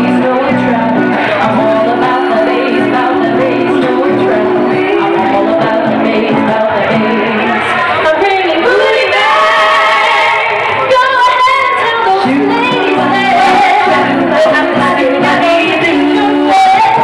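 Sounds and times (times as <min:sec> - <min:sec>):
acoustic guitar: 0:00.0 - 0:17.0
women singing in harmony: 0:00.0 - 0:17.0.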